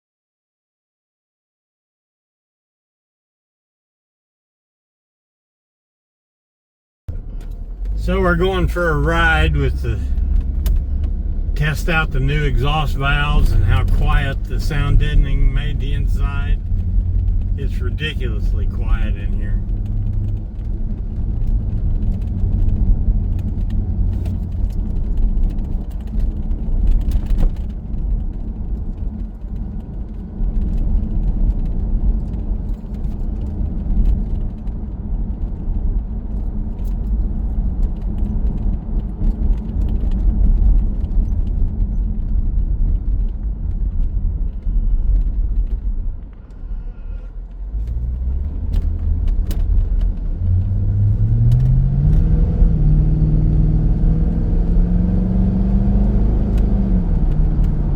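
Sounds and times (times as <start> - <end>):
car engine and road rumble: 7.1 - 57.9.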